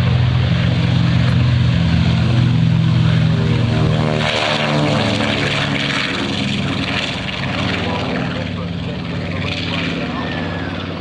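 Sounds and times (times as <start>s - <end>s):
propeller engines droning: 0.0s - 11.0s.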